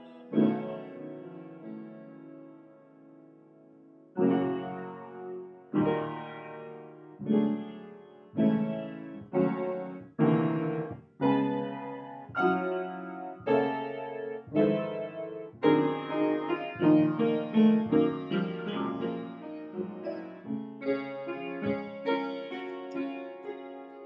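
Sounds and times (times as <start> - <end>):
piano chords: 0.0 - 24.0.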